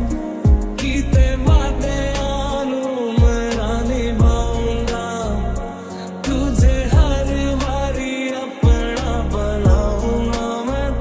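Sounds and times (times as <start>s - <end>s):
deep bass kicks: 0.0s - 2.6s, 3.2s - 5.7s, 6.3s - 8.0s, 8.6s - 11.0s
hi-hat ticks: 0.0s - 11.0s
person singing melody: 0.0s - 11.0s.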